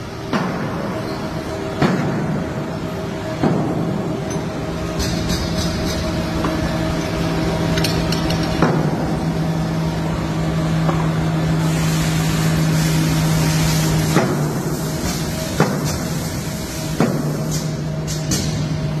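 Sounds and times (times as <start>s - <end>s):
low workshop hum: 0.0s - 19.0s.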